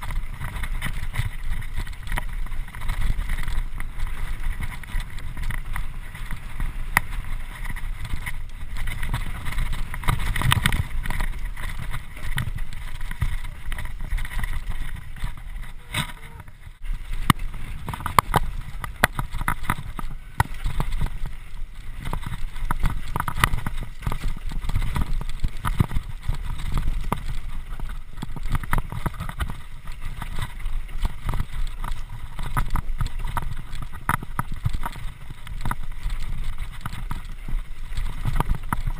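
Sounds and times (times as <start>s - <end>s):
bike rattling and knocking: 0.0s - 38.9s
wind rushing over microphone: 0.0s - 38.9s.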